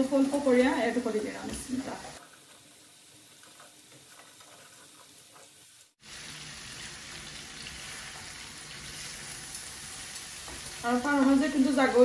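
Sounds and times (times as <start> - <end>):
fritters sizzling in a frying pan: 0.0 - 12.0.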